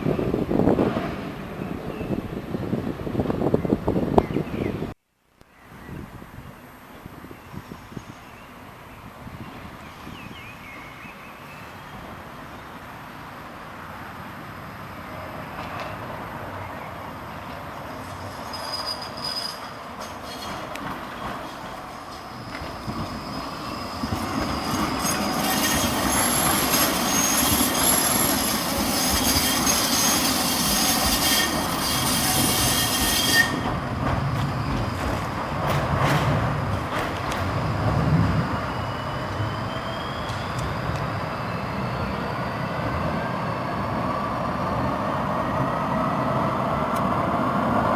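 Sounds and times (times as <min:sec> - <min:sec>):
tram approaching: 0:00.0 - 0:05.0, 0:08.3 - 0:47.9
tram wheels squealing on rails: 0:09.5 - 0:47.9.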